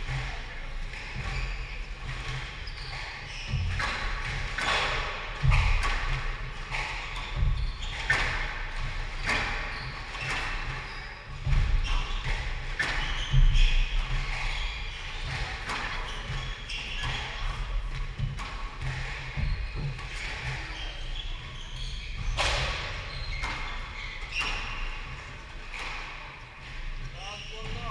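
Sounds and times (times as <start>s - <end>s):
squash ball hitting rackets and walls: 0.0s - 27.9s.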